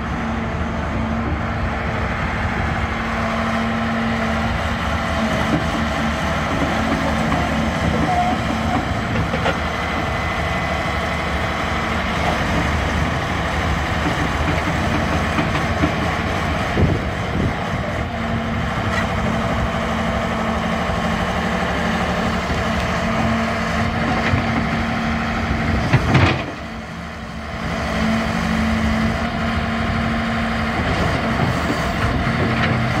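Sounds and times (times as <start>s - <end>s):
excavator diesel engine idling: 0.0s - 33.0s.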